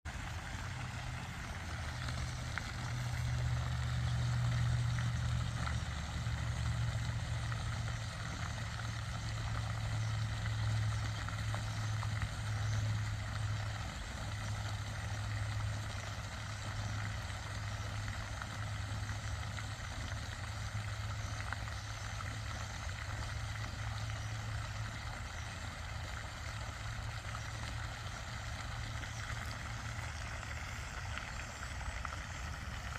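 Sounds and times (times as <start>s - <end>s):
fountain water splashing: 0.0s - 32.9s.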